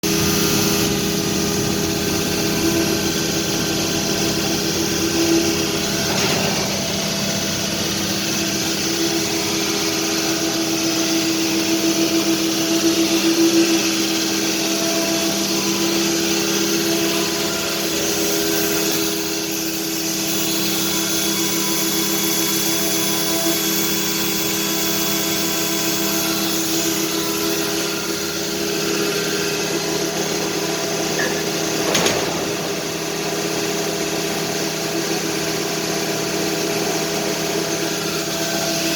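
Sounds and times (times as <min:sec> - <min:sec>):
cnc machine drone: 0:00.0 - 0:38.9.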